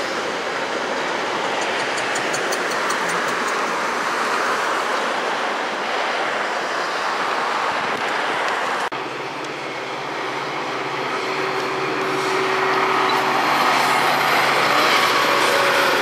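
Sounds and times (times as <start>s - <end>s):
train wheels rushing on rail: 0.0s - 6.4s, 7.3s - 16.0s.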